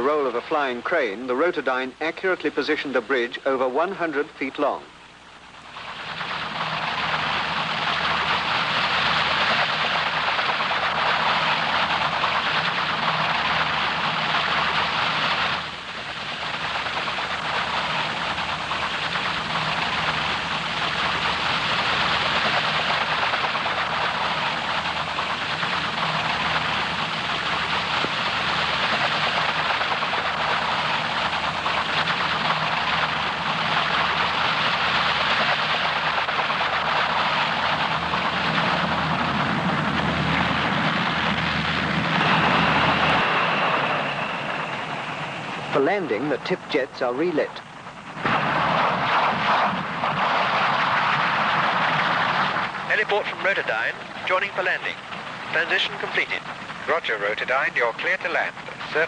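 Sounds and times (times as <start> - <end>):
helicopter hovering roar: 0.0 - 59.0.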